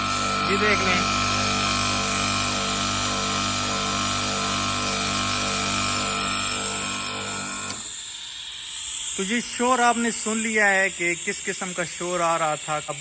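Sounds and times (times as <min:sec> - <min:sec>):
air conditioner compressor humming: 0:00.0 - 0:12.7.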